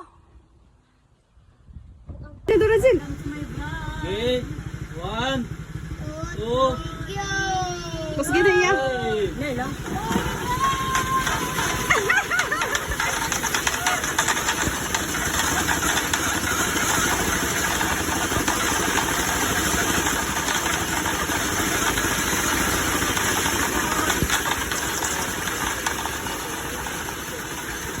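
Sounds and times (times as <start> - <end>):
engine running: 2.5 - 28.0.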